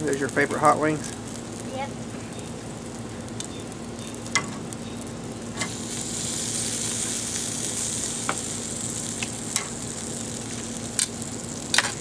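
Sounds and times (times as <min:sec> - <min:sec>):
chicken wings sizzling on grill: 0:00.0 - 0:12.0.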